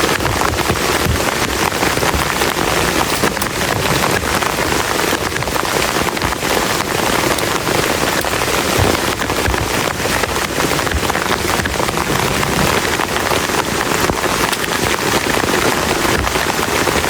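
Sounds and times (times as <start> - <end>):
heavy rain on a shelter: 0.0 - 17.0.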